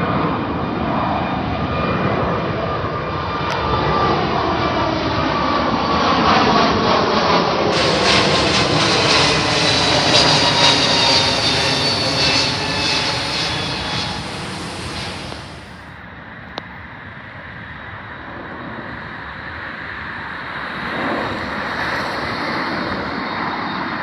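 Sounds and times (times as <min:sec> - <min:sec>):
jet airliner engine roar: 0:00.0 - 0:24.0.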